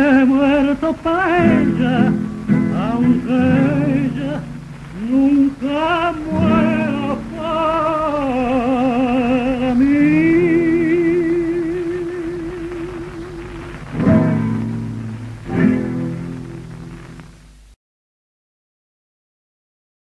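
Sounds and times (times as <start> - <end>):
man singing with vibrato: 0.0 - 16.1
strummed guitar chords: 0.0 - 17.5
record surface hiss: 0.0 - 17.8.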